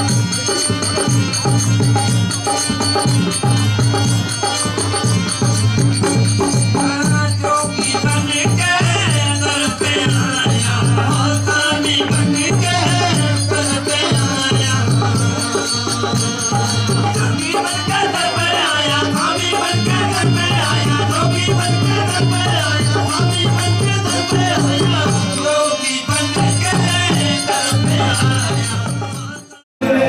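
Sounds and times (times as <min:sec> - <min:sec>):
music with rhythmic beat: 0:00.0 - 0:30.0.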